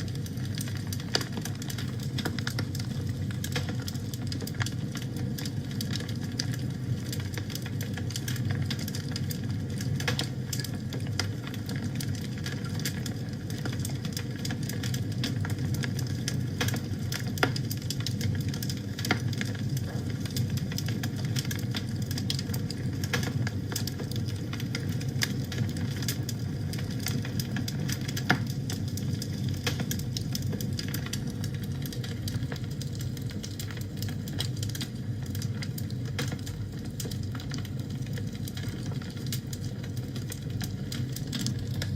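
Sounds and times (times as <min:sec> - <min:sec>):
loud pops from fire: 0:00.0 - 0:41.9
wood fire crackling: 0:00.0 - 0:41.9.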